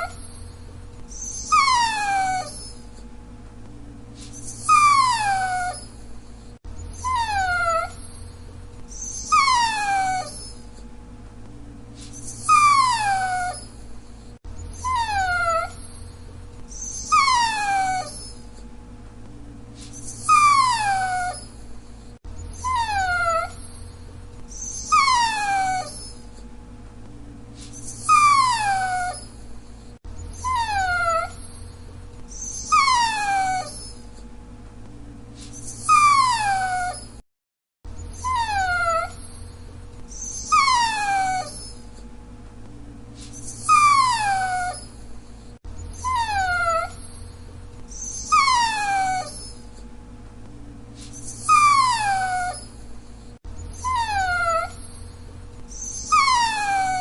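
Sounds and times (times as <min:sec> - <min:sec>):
dog whining: 0:00.0 - 0:03.1, 0:04.2 - 0:10.9, 0:12.0 - 0:18.7, 0:19.8 - 0:26.5, 0:27.6 - 0:34.3, 0:35.4 - 0:37.2, 0:37.9 - 0:42.1, 0:43.2 - 0:49.9, 0:51.0 - 0:57.0.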